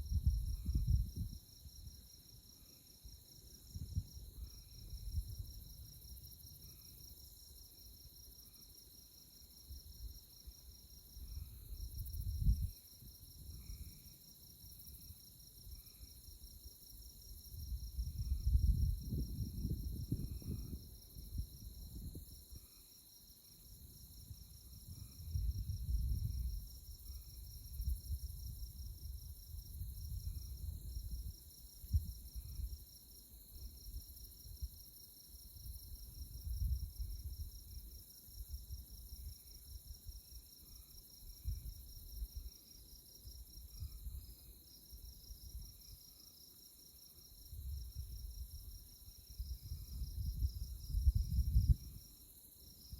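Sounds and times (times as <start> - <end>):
soft low insect chirps: 0.0 - 52.9.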